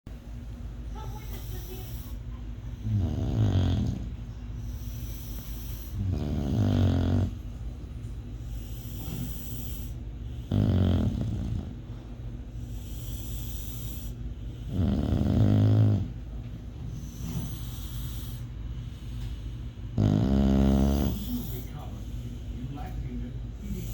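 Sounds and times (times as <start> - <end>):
dog snoring: 1.2 - 7.6, 8.4 - 22.6, 23.5 - 23.9.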